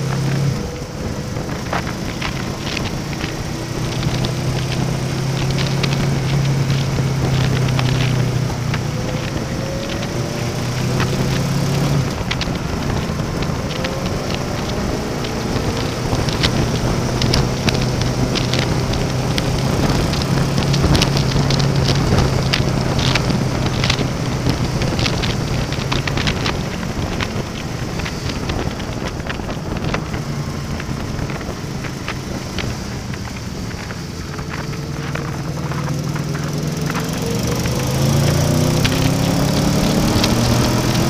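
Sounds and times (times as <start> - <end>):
motorcycle engine cruising: 0.0 - 41.0
wind rush and buffeting: 0.0 - 41.0.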